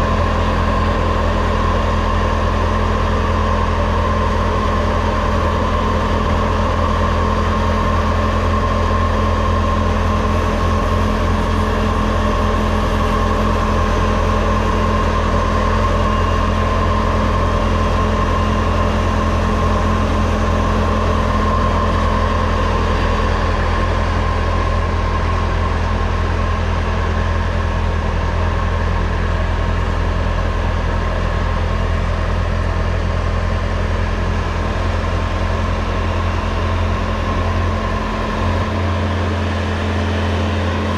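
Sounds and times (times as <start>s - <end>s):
diesel engine hum: 0.0s - 40.9s
snow blower whine: 0.0s - 40.9s.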